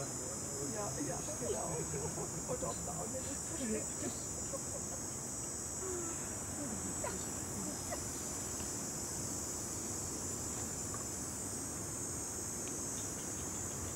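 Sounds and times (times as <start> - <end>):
night insects trilling: 0.0 - 13.9.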